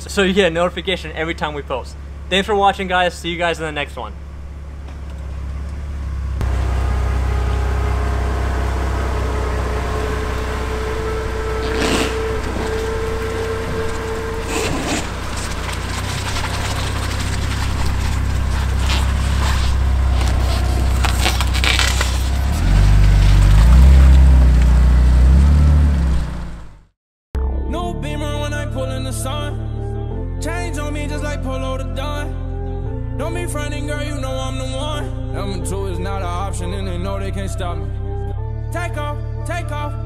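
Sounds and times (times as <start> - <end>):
car engine and road drone: 0.0 - 27.0, 28.0 - 39.1.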